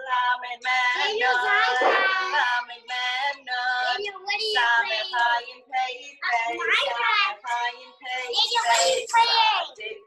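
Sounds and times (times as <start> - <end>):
children and woman singing: 0.0 - 10.0.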